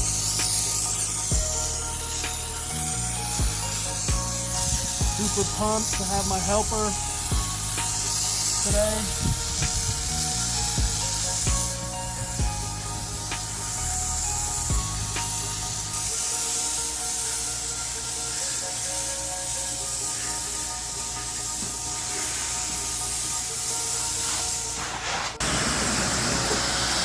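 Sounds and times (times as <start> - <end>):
pressure washer spray hissing: 0.0 - 27.0.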